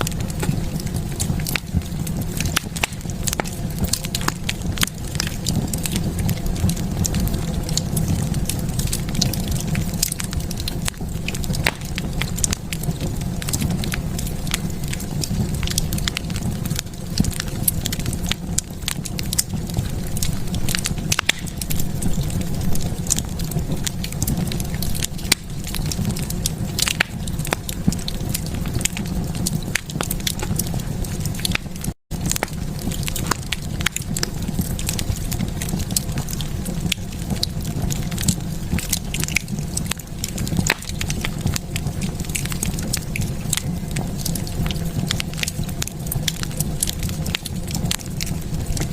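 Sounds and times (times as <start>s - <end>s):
fire crackling and popping: 0.0s - 48.9s
low rumble of flames: 0.0s - 48.9s.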